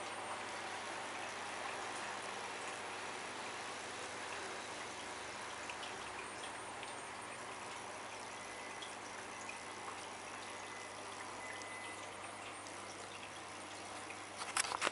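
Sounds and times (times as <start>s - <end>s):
water trickling: 0.0s - 14.9s.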